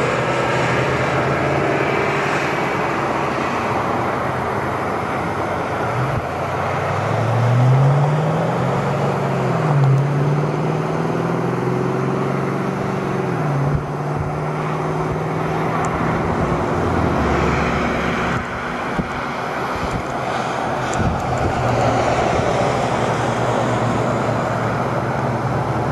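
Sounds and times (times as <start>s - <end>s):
engine running: 0.0s - 25.9s.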